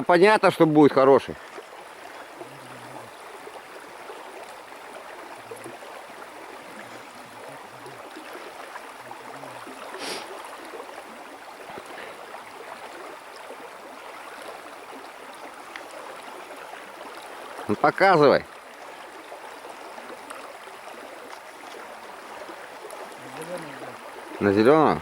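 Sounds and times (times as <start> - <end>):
river water flowing over riffle: 0.0 - 25.0.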